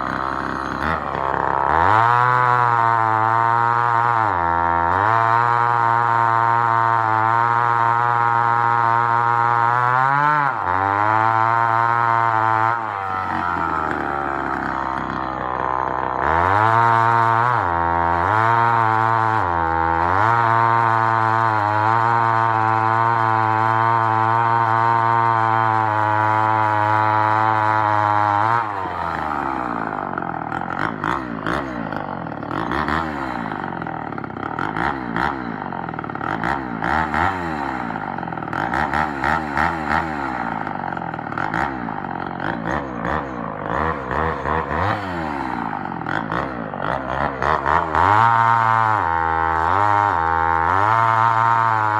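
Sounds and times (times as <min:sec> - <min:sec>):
chainsaw revving: 0:00.0 - 0:51.9.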